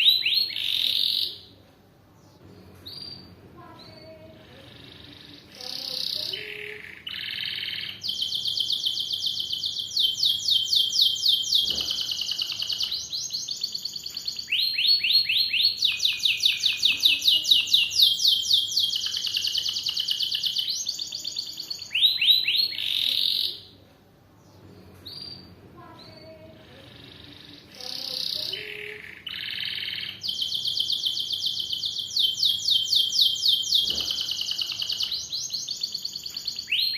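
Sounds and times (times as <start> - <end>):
canary singing trills: 0.0 - 1.6, 2.2 - 23.8, 24.4 - 36.9.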